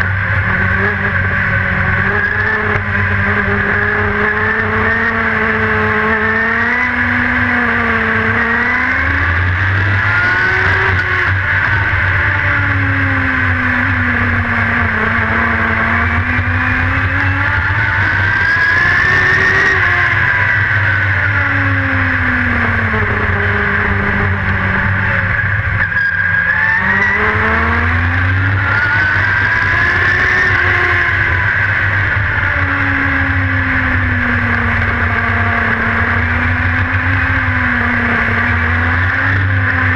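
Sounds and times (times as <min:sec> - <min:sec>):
race car engine rumbling: 0:00.0 - 0:39.9.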